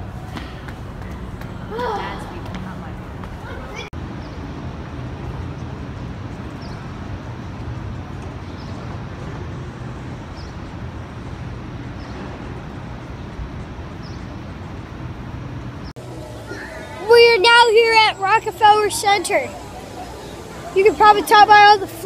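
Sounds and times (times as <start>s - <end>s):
busy street din: 0.0s - 22.0s
traffic rumble: 0.0s - 22.0s.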